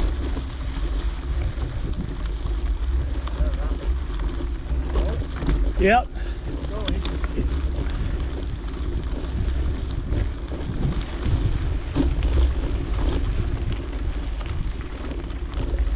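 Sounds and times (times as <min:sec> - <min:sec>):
bike tyres rumbling on dirt: 0:00.0 - 0:15.9
wind on microphone: 0:00.0 - 0:15.9.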